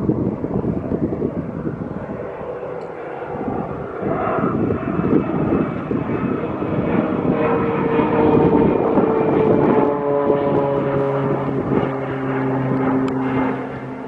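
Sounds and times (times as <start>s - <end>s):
small airplane engine drone: 0.0s - 14.0s.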